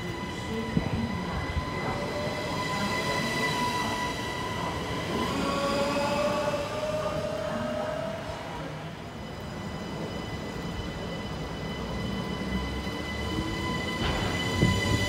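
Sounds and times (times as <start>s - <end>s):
electric train whine: 0.0s - 15.0s.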